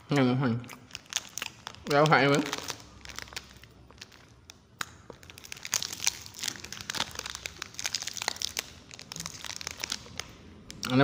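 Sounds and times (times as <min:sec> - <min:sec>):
plastic wrapper crinkling: 0:00.1 - 0:11.0.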